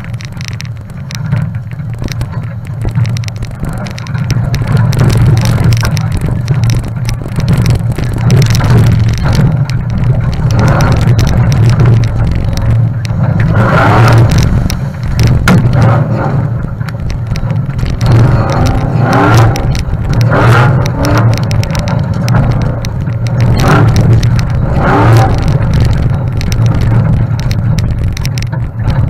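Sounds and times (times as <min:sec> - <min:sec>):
off-road vehicle engine revving: 0:00.0 - 0:29.0
vehicle knocks and rattles: 0:00.0 - 0:29.0.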